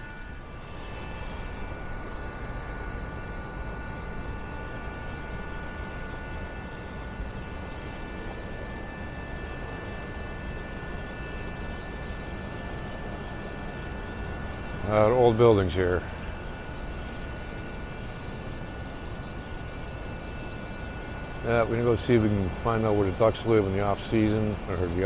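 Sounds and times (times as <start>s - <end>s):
ventilation machinery humming: 0.0s - 25.0s.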